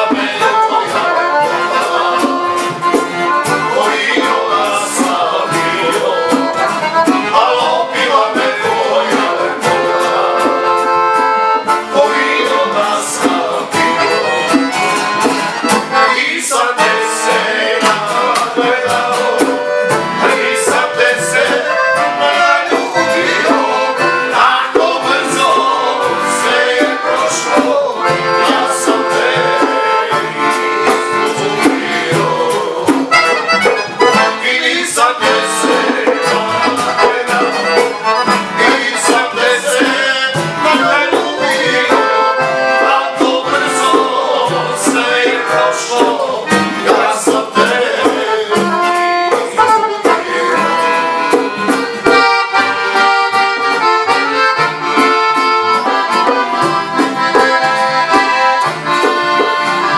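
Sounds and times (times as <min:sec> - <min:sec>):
accordion melody: 0:00.0 - 0:59.9
acoustic guitar: 0:00.0 - 0:59.9
conga drums: 0:00.0 - 0:59.9
double bass: 0:00.0 - 0:59.9.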